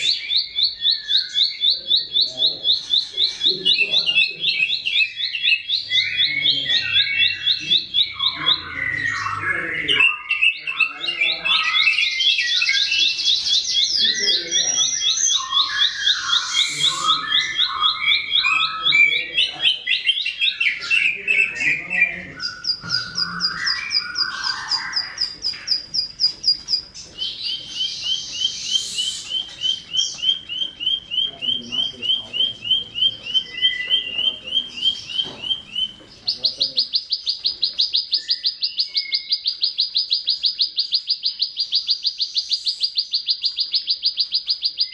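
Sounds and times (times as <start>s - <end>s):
bird singing fast trills: 0.0s - 44.9s
scratchy bird chattering: 0.0s - 44.9s.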